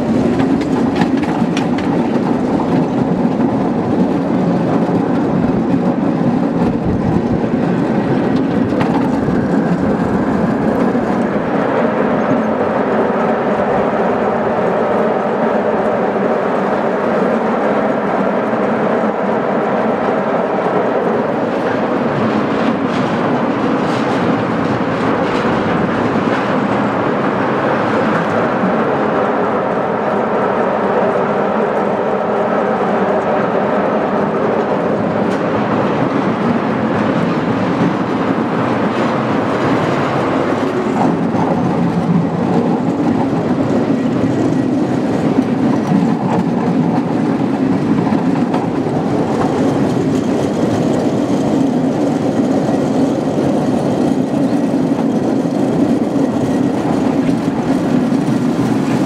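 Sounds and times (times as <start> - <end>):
miniature train wheels rumbling on rail: 0.0 - 30.2, 31.0 - 59.0.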